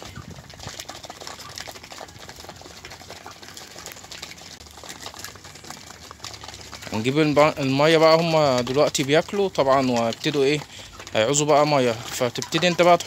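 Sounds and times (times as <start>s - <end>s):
birds pecking at feed dishes: 0.0s - 13.0s.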